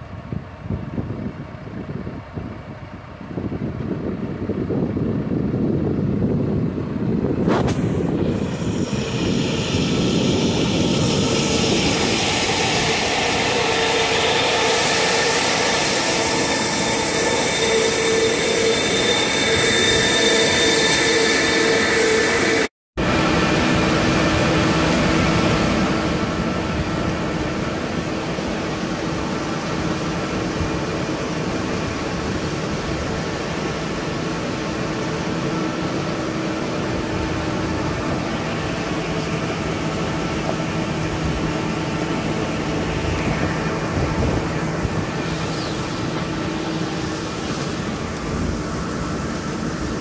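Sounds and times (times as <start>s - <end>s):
constant machine hum: 0.0s - 50.0s.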